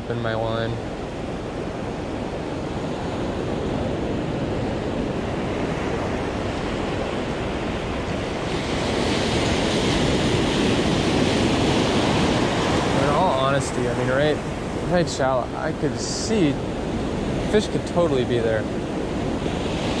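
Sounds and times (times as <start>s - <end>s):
ocean surf washing in: 0.0s - 20.0s
wave breaking: 0.6s - 20.0s.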